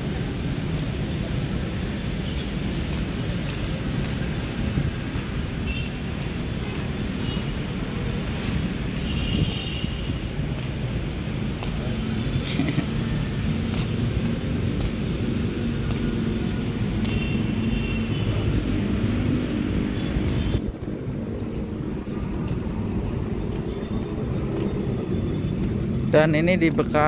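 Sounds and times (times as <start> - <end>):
low rumble of road traffic: 0.0 - 27.0.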